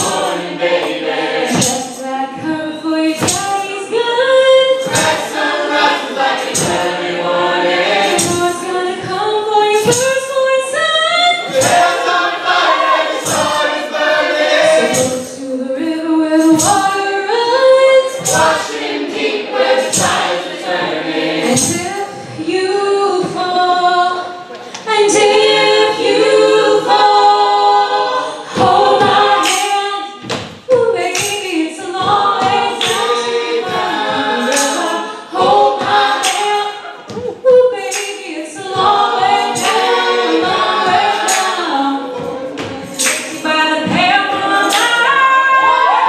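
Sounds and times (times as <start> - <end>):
a cappella group singing: 0.0 - 46.0.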